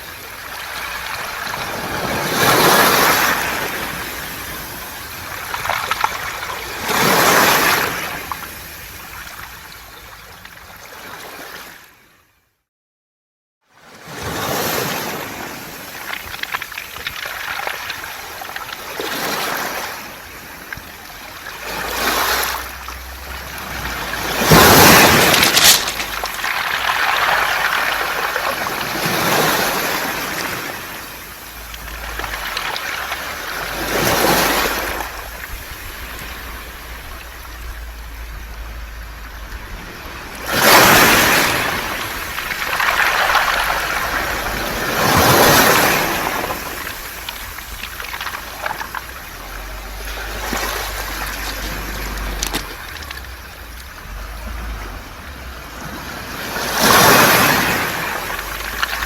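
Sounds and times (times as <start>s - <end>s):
waves on pebble beach: 0.0s - 11.9s, 13.8s - 59.0s.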